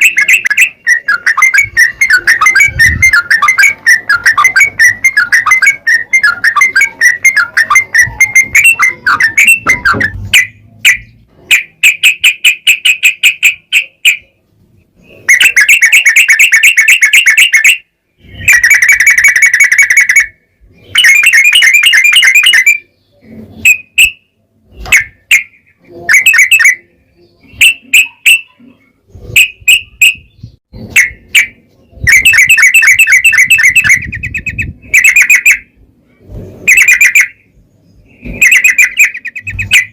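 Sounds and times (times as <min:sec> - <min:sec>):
bulbul singing rolling trills: 0:00.0 - 0:39.9.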